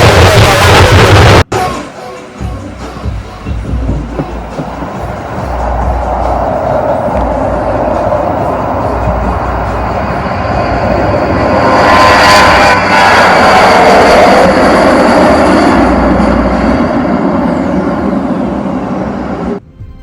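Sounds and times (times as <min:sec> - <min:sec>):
jet airliner engines roaring: 0:03.1 - 0:19.6.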